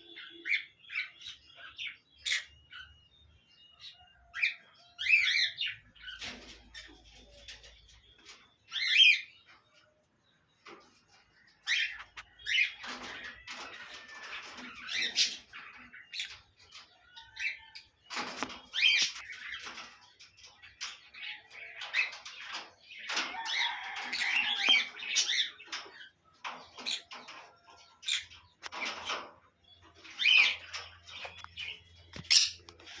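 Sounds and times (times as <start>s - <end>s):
parrots squawking and chirping: 4.3s - 9.6s, 10.6s - 33.0s.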